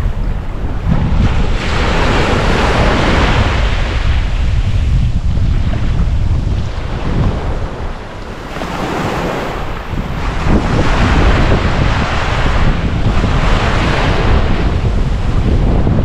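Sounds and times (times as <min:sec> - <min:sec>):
ocean waves breaking: 0:00.0 - 0:16.0
wind buffeting microphone: 0:00.0 - 0:16.0.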